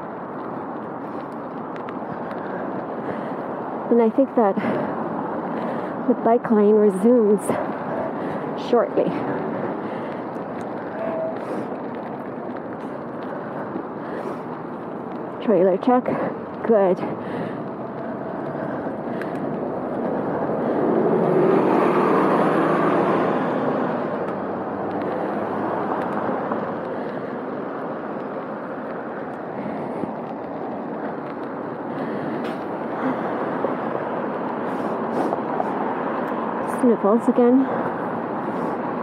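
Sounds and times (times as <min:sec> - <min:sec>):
car passing: 0:00.0 - 0:39.0
wind and road noise: 0:00.0 - 0:39.0.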